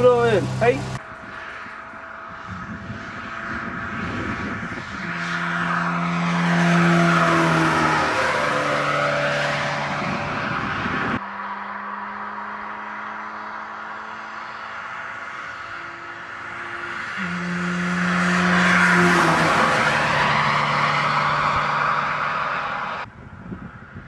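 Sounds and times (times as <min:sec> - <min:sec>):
car driving past at speed: 0:00.0 - 0:23.7
steady road hum: 0:00.0 - 0:24.0.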